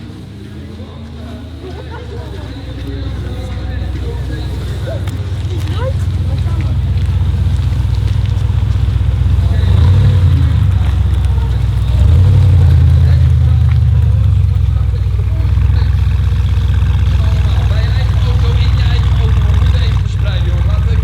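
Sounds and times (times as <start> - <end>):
car engine rumbling at low revs: 0.0 - 21.0.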